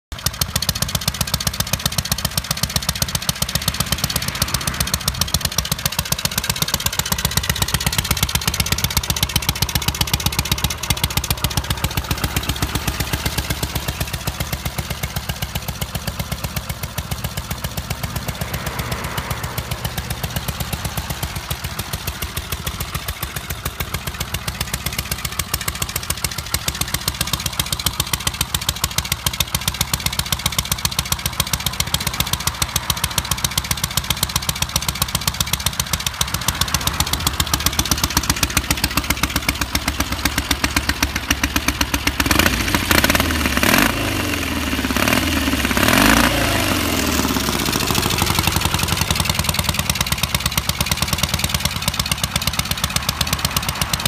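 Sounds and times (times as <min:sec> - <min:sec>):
motorcycle engine idling: 0:00.1 - 0:54.0.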